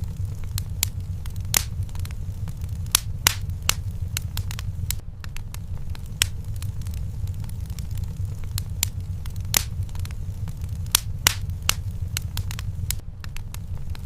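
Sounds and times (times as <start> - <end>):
fire crackles and pops: 0.0 - 14.0
flames rumbling: 0.0 - 14.0.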